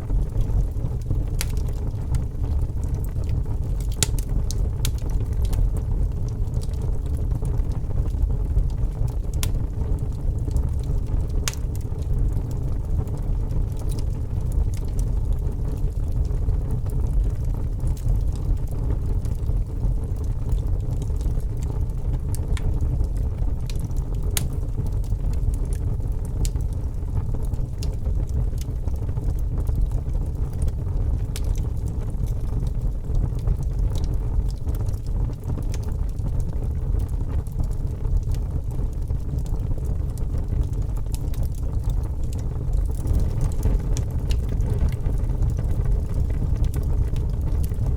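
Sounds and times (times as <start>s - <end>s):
burning wood crackling and popping: 0.0s - 47.9s
log fire rumbling: 0.0s - 47.9s.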